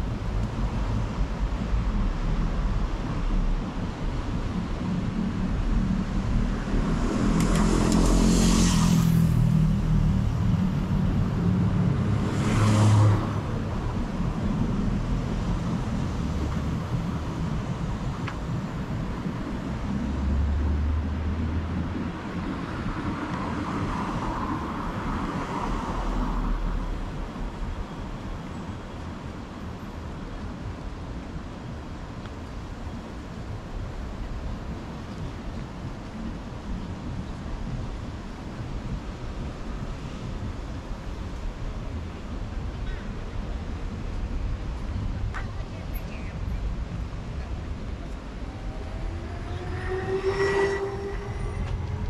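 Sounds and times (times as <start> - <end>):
cars passing: 0.0 - 52.0
low traffic rumble: 0.0 - 52.0.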